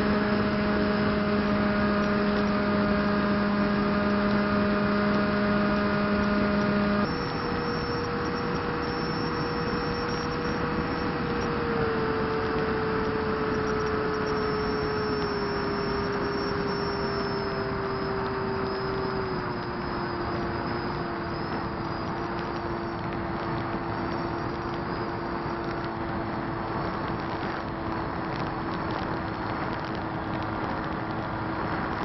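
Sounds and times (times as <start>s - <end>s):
propeller motor whine: 0.0s - 32.0s.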